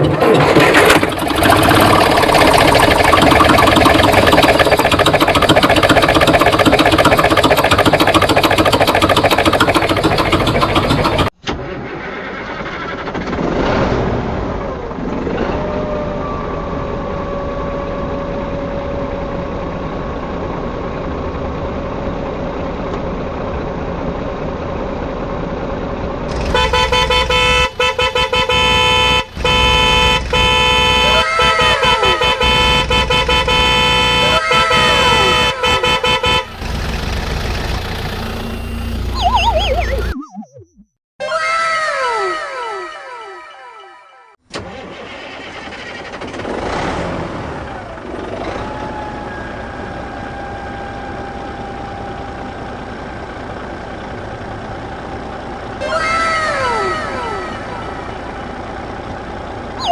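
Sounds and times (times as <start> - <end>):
vehicle engine noise: 0.0 - 40.9, 44.5 - 59.9.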